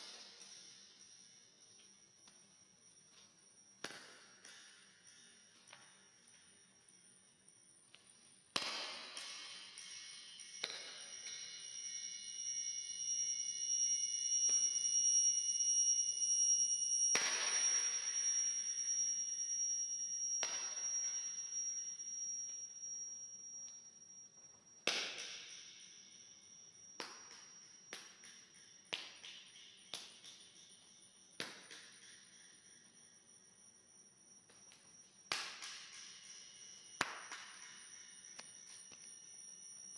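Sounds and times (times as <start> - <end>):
faint whine: 0.0 - 39.9
high whistling audio feedback: 0.0 - 39.9.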